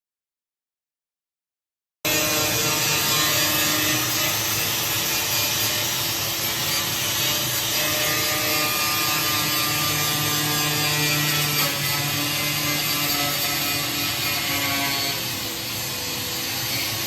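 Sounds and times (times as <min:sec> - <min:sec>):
power tool running: 0:02.1 - 0:17.0.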